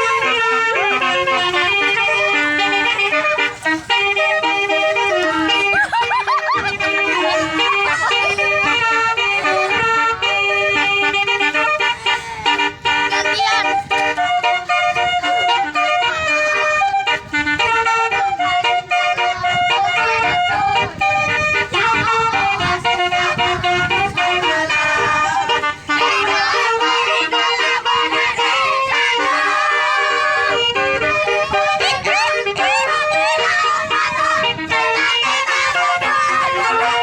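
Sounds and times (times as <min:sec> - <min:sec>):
multi-note vehicle horn melody: 0:00.0 - 0:37.0.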